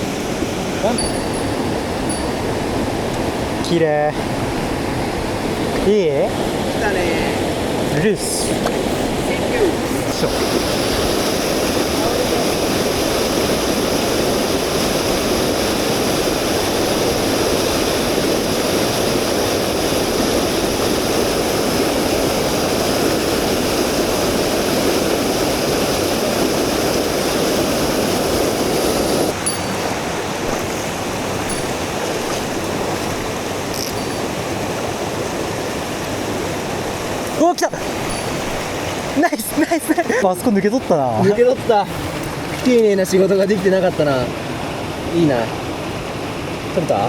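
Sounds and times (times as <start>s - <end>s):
stream water rushing over rocks: 0.0s - 47.0s.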